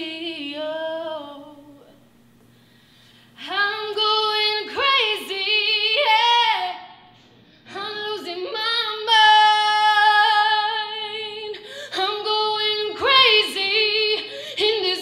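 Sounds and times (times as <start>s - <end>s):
woman singing a cappella: 0.0s - 2.1s, 3.3s - 15.0s.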